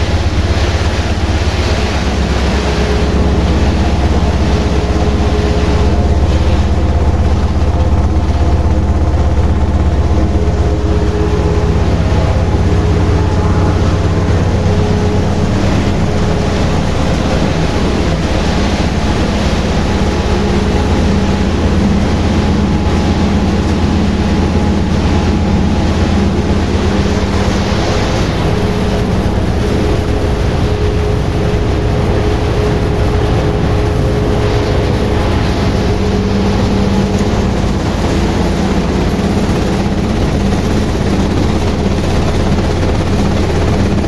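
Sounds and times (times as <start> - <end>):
sorting machine humming and rattling: 0.0 - 44.0.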